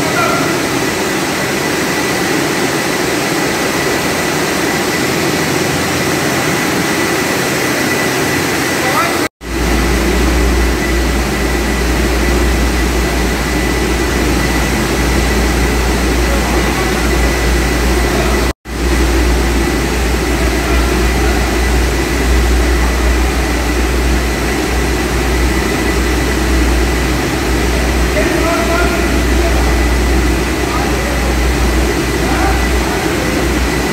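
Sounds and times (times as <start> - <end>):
faint high whine: 0.0 - 33.9
production line machinery drone: 0.0 - 33.9.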